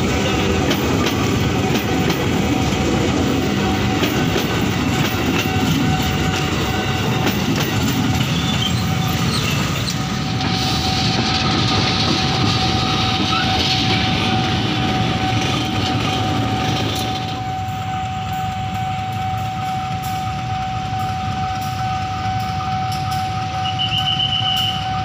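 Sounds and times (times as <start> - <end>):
train rolling past: 0.0 - 25.0.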